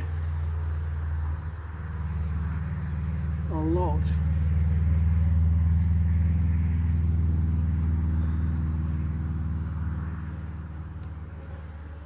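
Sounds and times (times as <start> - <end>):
low engine-like drone: 0.0 - 12.0.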